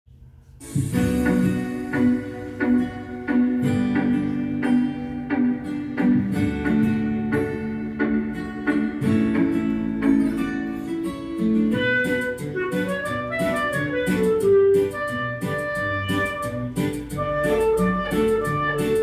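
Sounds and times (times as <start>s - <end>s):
plucked guitar: 0.9s - 19.0s
clarinet melody: 1.2s - 19.0s.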